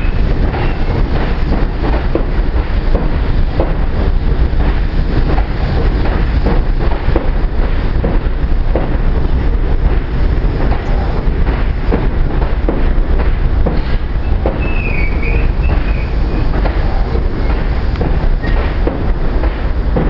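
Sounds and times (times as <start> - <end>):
train wheels rumbling on rail: 0.0 - 20.0
wheels clicking over rail joints: 0.0 - 20.0
wind buffeting microphone: 0.0 - 20.0.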